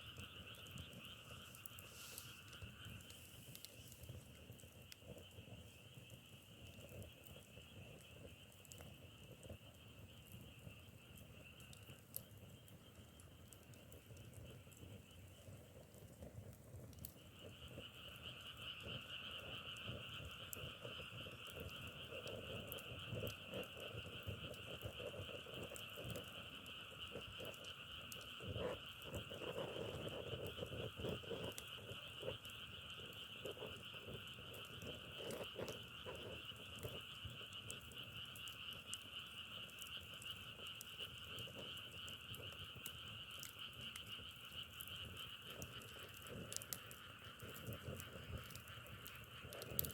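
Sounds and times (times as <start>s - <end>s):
frogs trilling: 0.0s - 49.9s
small crackles and clicks: 0.0s - 49.9s.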